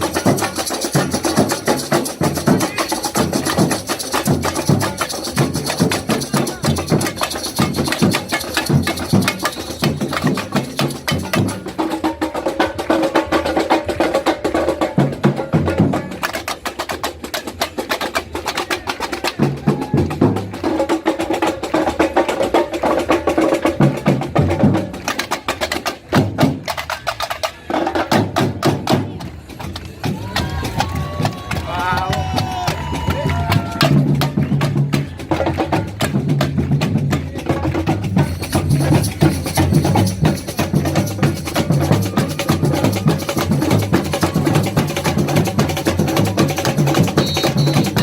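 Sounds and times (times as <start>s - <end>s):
fast sharp percussion strokes: 0.0s - 48.0s.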